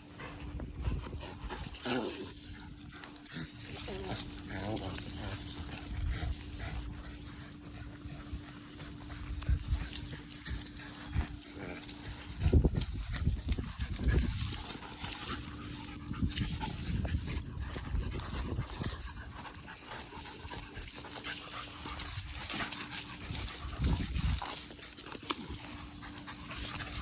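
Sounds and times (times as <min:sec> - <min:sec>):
puppy panting: 0:00.0 - 0:27.0.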